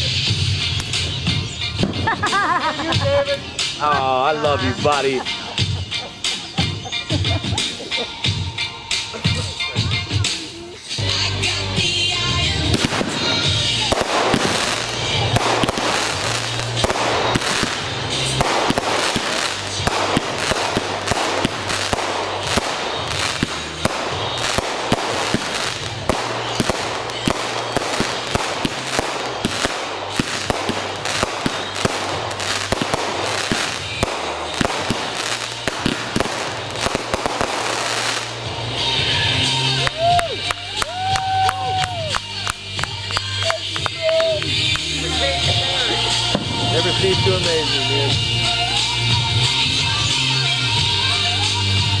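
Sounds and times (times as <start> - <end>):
fireworks bursting and crackling: 0.0 - 52.0
music playing: 0.0 - 52.0.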